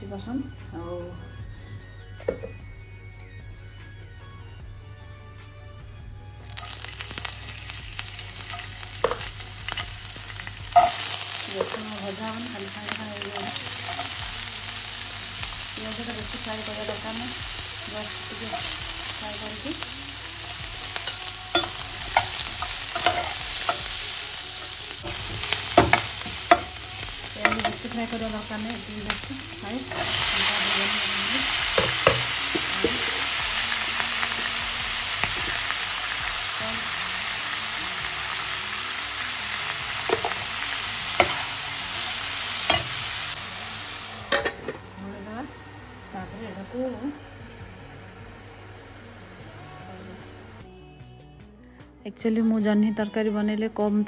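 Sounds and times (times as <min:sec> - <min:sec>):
vegetables sizzling in hot oil: 0:06.4 - 0:50.6.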